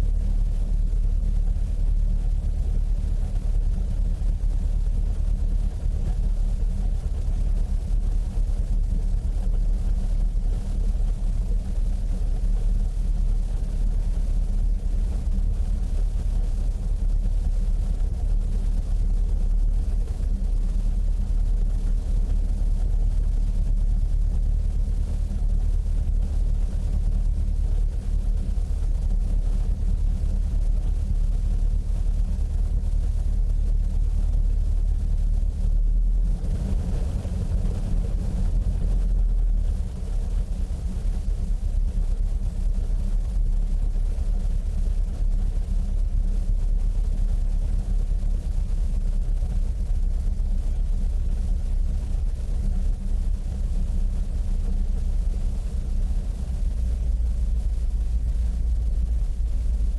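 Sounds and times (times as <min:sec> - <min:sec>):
light aircraft engine idling: 0:00.0 - 0:59.9.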